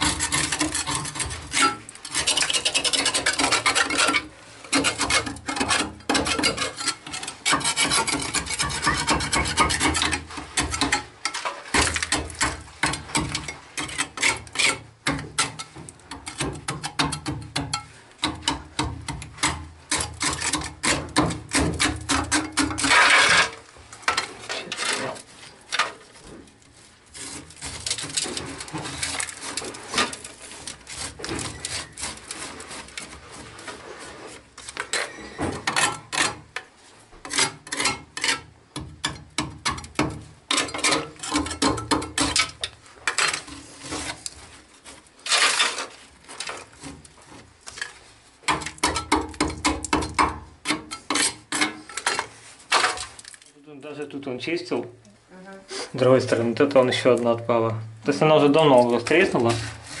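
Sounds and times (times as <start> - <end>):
metal scraper scraping pipe: 0.0 - 53.4, 58.2 - 60.0.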